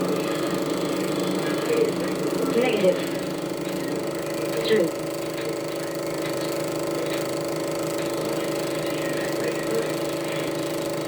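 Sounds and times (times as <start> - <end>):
film projector whirring: 0.0 - 11.0.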